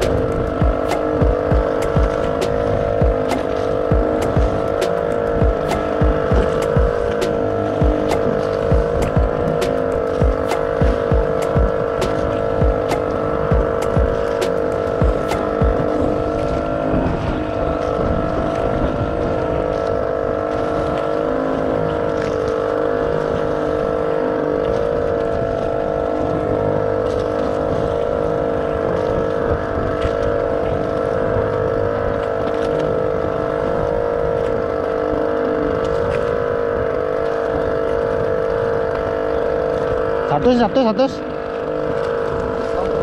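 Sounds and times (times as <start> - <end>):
boat engine humming: 0.0 - 43.0.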